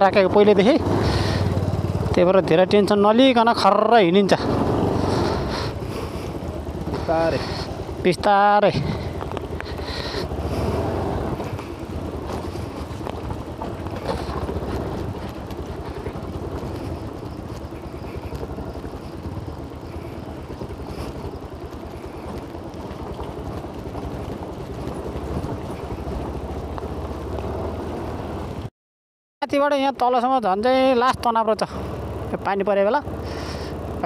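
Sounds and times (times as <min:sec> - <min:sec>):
motorcycle engine rumbling: 0:00.0 - 0:28.7, 0:29.5 - 0:34.0
wind and tyre hiss: 0:00.0 - 0:28.7.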